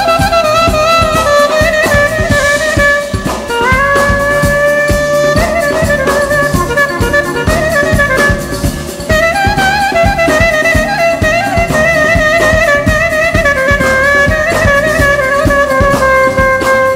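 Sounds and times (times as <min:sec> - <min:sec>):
clarinet melody: 0:00.0 - 0:16.9
steady drum rhythm: 0:00.0 - 0:16.9.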